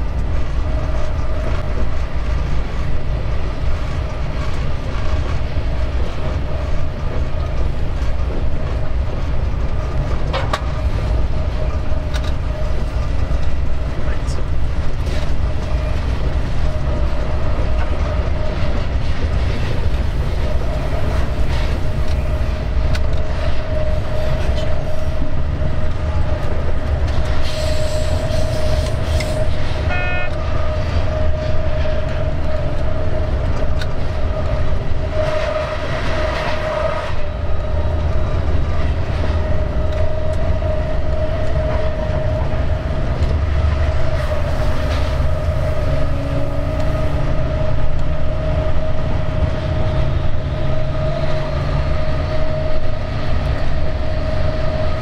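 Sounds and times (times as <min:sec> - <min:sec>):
locomotive engine rumble and whine: 0:00.0 - 0:55.0
train wheels on track: 0:00.0 - 0:55.0.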